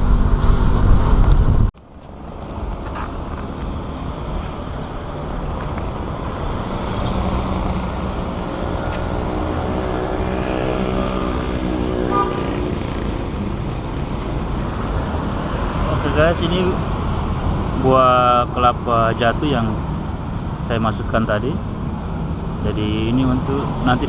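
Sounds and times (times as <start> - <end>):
road rumble: 0.0 - 24.0.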